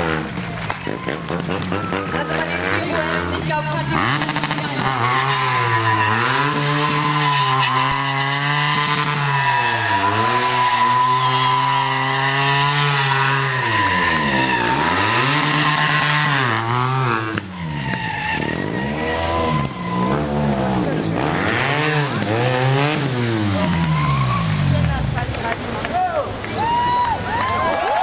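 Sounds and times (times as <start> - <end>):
motorcycle engine revving: 0.0 - 25.8
tyre squealing: 0.9 - 24.9.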